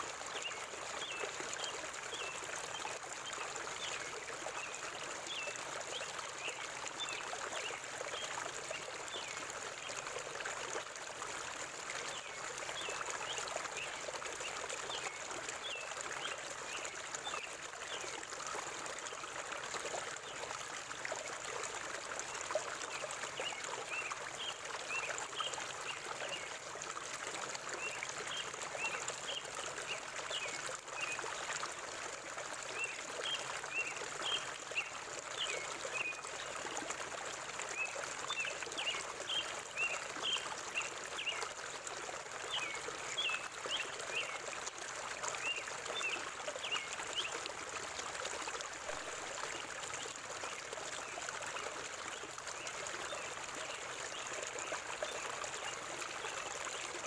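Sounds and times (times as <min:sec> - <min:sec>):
river water running: 0:00.0 - 0:57.0.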